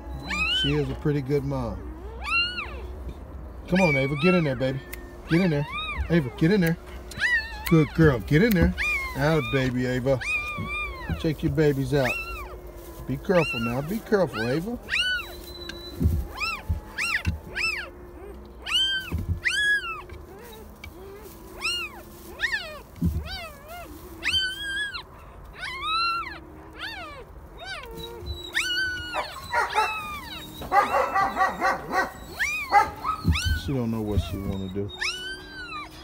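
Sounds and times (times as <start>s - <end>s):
puppies crying: 0.0s - 36.0s
soft low thumps: 1.7s - 25.1s, 27.9s - 35.4s.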